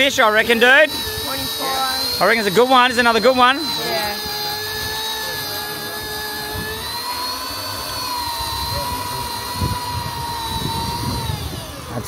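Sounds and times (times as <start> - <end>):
fishing reel motor whining: 0.0 - 12.0.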